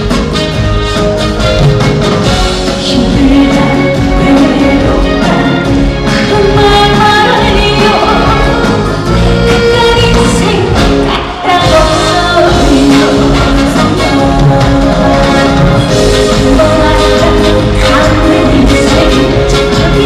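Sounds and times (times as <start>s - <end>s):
band accompaniment: 0.0s - 20.0s
woman singing: 2.7s - 20.0s.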